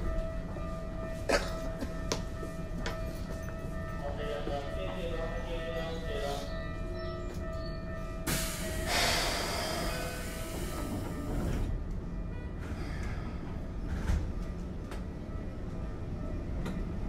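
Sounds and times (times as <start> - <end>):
train interior low rumble: 0.0 - 17.0.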